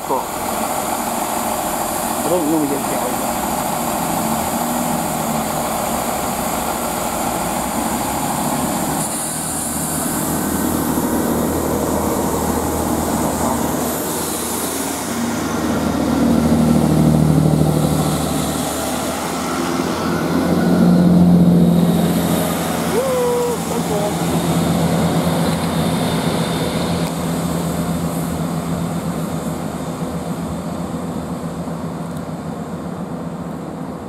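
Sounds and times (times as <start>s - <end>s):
diesel train engines running: 0.0s - 34.0s.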